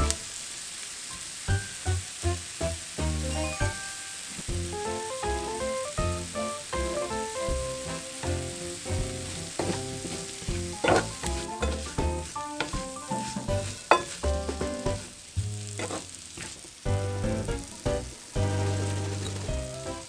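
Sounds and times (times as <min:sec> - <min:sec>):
potatoes sizzling in a frying pan: 0:00.0 - 0:20.0.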